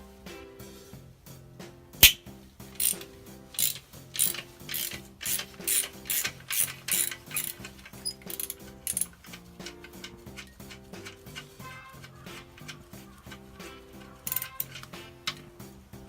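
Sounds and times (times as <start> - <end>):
background music: 0.0 - 16.0
sharp click: 2.0 - 15.6
ratchet wrench clicking: 2.0 - 15.7.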